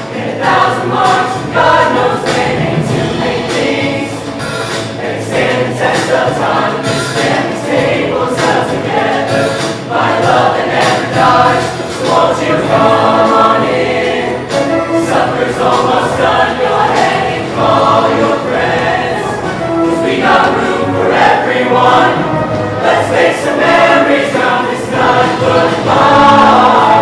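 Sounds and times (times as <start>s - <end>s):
choir singing: 0.0s - 27.0s
instrumental accompaniment: 0.0s - 27.0s.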